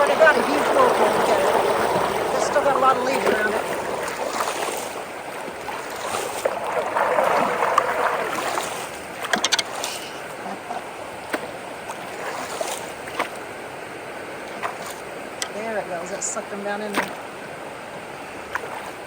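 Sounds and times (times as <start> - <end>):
water rushing into culvert: 0.0 - 19.0.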